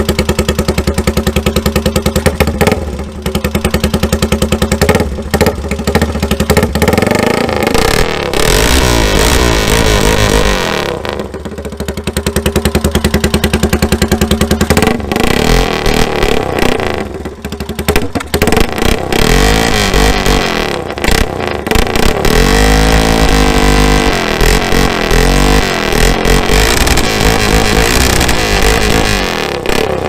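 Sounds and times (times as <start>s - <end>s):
small gasoline engine revving: 0.0s - 30.0s.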